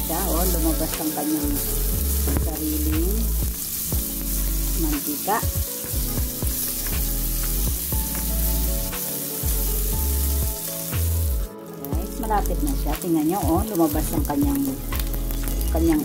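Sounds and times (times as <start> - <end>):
meat sizzling in a pan: 0.0 - 16.0
music of sustained notes: 0.0 - 16.0.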